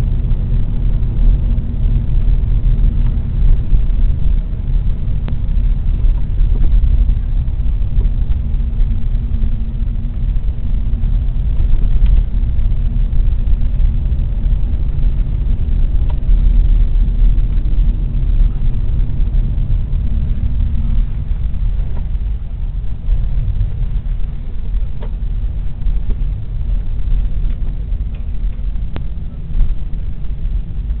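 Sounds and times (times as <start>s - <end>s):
car road rumble: 0.0s - 31.0s.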